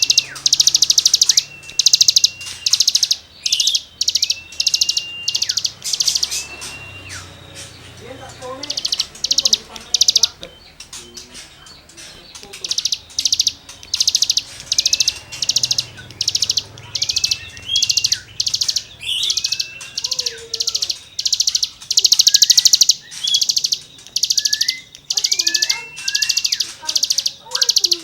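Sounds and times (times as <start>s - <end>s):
thin bird whistles: 0.0s - 7.8s, 12.8s - 28.0s
songbird scratchy trills: 0.0s - 28.0s.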